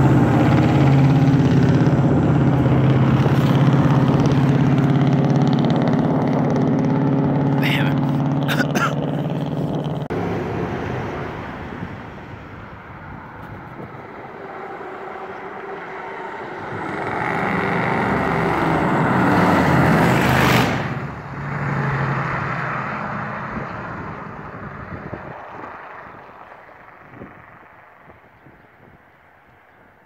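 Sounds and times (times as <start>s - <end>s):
vehicle driving past: 0.0s - 29.4s.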